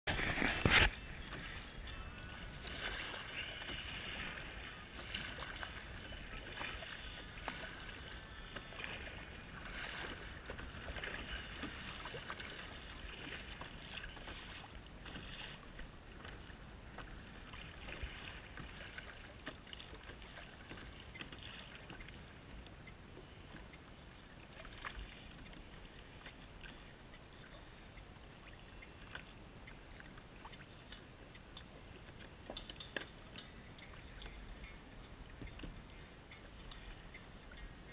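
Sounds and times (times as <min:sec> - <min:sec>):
kayak paddle splashing: 0:00.1 - 0:37.9
water lapping against kayak hull: 0:00.1 - 0:37.9.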